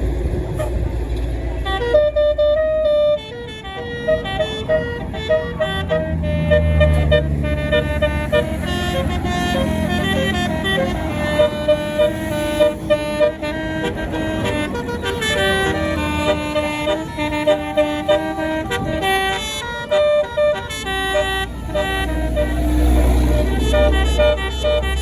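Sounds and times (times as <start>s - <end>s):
bus engine rumble: 0.0s - 25.0s
air horn playing a tune: 1.6s - 25.0s.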